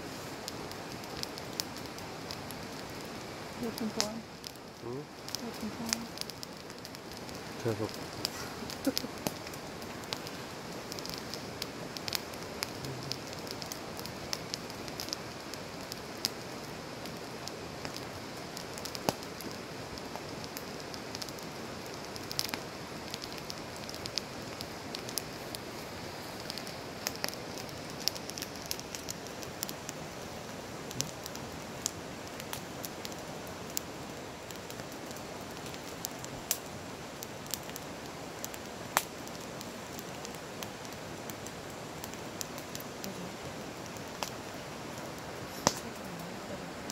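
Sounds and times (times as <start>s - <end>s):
campfire hissing and crackling: 0.0s - 46.9s.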